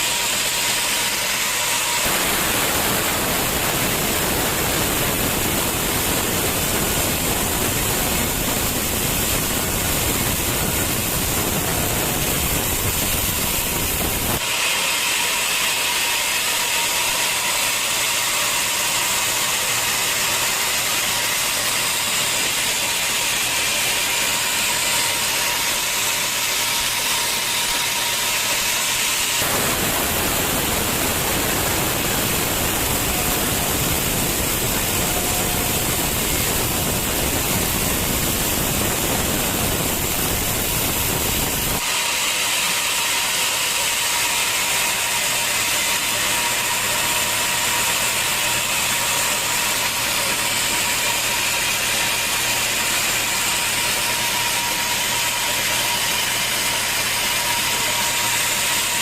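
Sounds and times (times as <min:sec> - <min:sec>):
sawmill saw whirring: 0:00.0 - 0:59.0.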